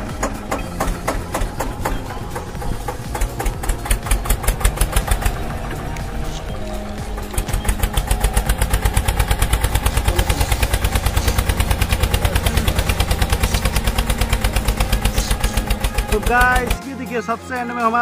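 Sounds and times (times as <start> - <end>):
engine chugging: 0.0 - 17.3
background music: 0.0 - 18.0.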